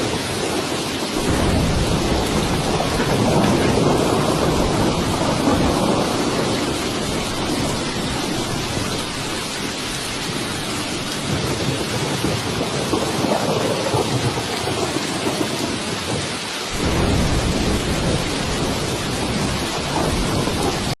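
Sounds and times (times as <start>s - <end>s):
rolling thunder: 0.0s - 21.0s
steady rain: 0.0s - 21.0s.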